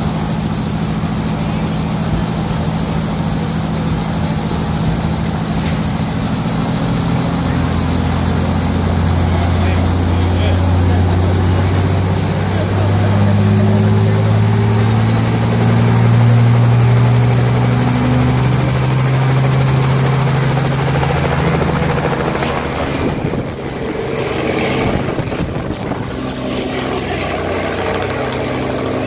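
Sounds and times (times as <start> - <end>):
helicopter engine and rotor hum: 0.0 - 29.0.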